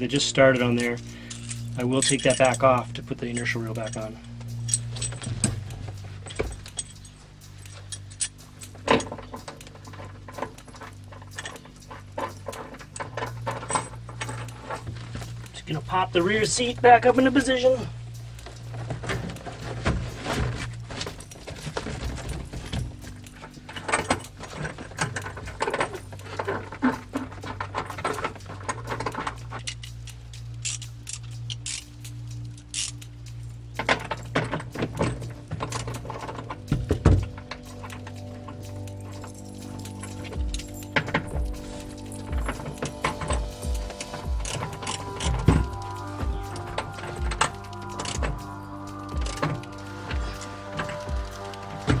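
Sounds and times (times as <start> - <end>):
low steady hum: 0.0 - 52.0
metal bracket clicks and clinks: 0.0 - 52.0.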